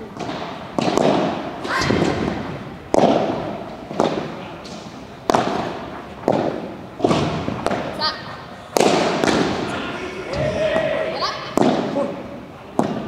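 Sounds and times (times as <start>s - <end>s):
rackets striking ball: 0.0s - 8.0s, 8.7s - 13.0s.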